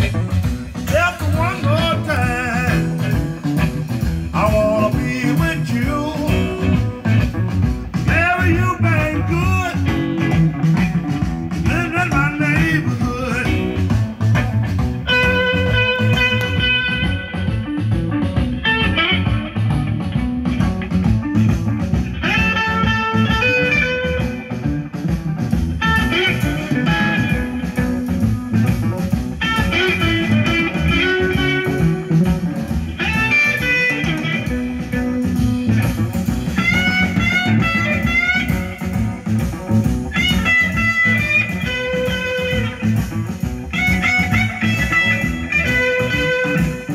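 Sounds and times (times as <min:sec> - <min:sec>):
blues electric guitar with backing: 0:00.0 - 0:46.9.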